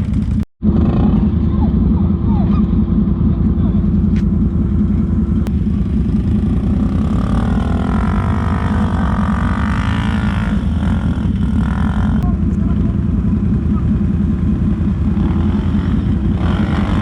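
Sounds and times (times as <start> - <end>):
atv engine rumbling: 0.0 - 17.0.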